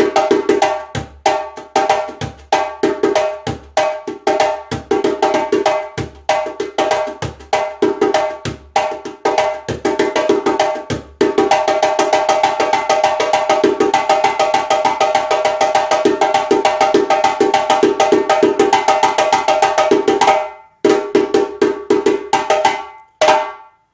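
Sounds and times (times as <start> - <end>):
djembe drum playing: 0.0 - 23.7.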